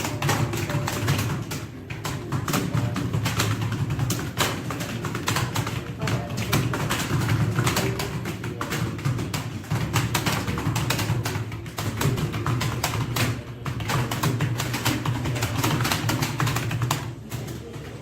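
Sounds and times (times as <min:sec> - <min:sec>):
fast keyboard typing: 0:00.0 - 0:18.0.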